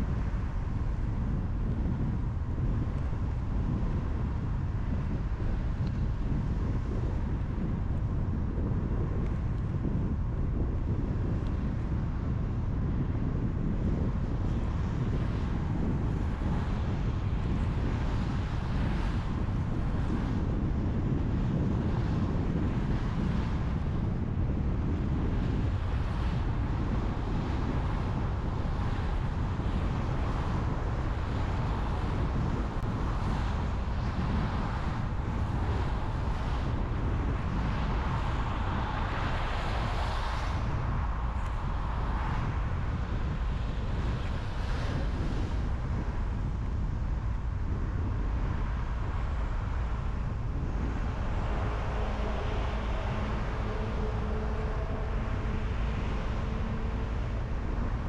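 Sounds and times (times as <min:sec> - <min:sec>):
low engine rumble: 0:00.0 - 0:58.0
tyre and wind noise: 0:00.0 - 0:58.0.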